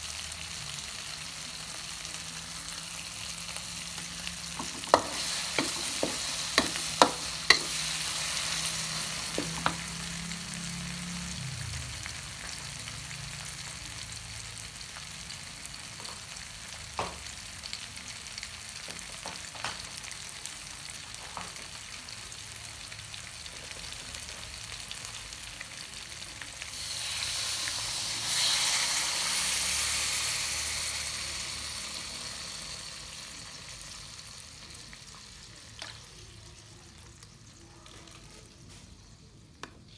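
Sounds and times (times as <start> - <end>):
paste sizzling in a wok: 0.0 - 39.7.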